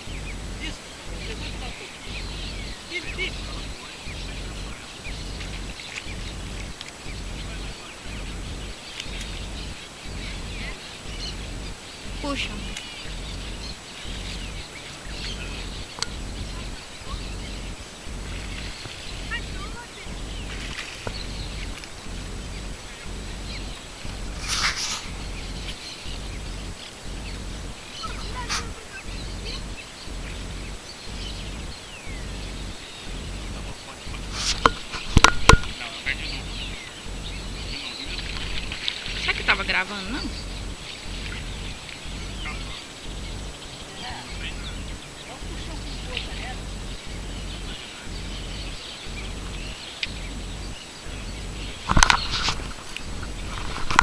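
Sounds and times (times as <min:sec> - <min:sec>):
harsh bird calls: 0:00.0 - 0:54.0
wild birds calling: 0:00.0 - 0:54.0
wind rumbling on microphone: 0:00.0 - 0:54.0.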